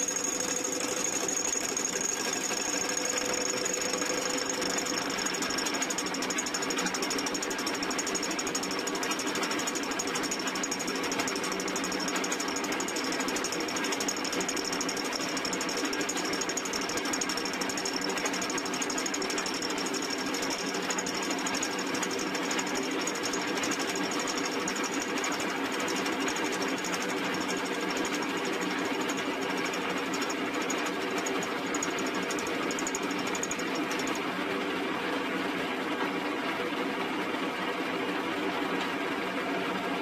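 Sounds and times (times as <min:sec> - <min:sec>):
milling machine cutting metal: 0:00.0 - 0:34.2.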